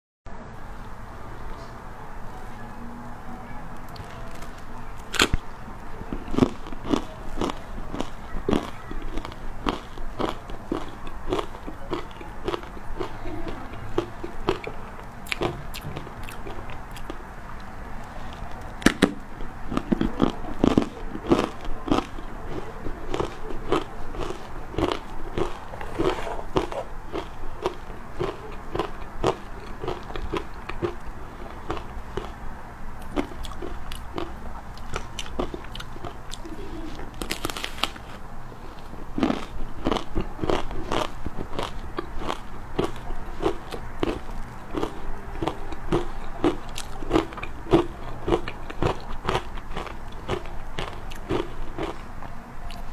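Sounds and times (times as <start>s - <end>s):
ice crunching between teeth: 3.9s - 32.4s, 33.0s - 52.1s.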